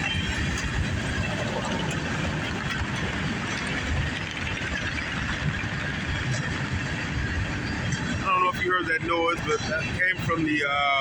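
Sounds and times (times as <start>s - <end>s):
steel wheels rumbling on rail: 0.0s - 11.0s.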